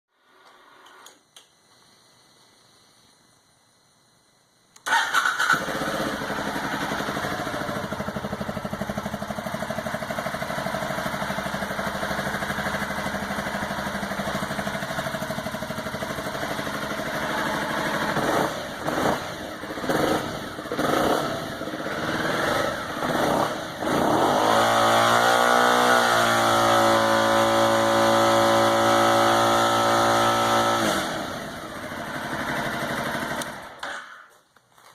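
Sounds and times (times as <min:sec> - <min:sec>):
motorcycle engine revving: 0:04.9 - 0:33.8.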